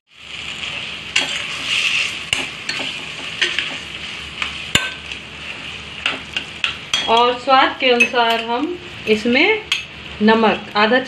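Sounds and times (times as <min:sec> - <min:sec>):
stuffing sizzling in oil: 0:00.1 - 0:11.0.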